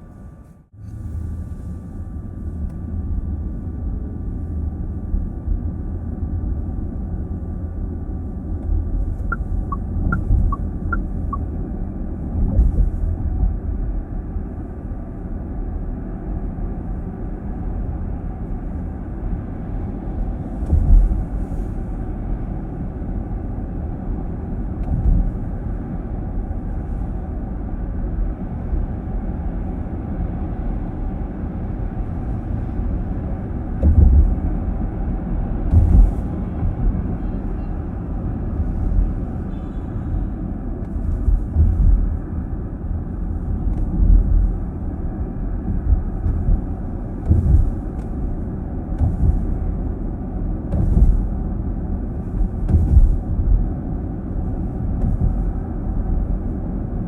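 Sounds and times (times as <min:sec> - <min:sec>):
road and tyre rumble in car: 0:00.0 - 0:57.0.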